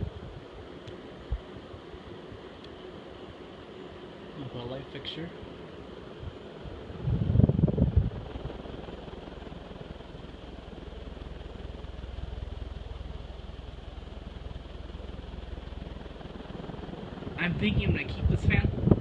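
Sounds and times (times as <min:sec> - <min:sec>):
ceiling fan air rush: 0:00.0 - 0:19.0
fan motor hum: 0:00.0 - 0:19.0.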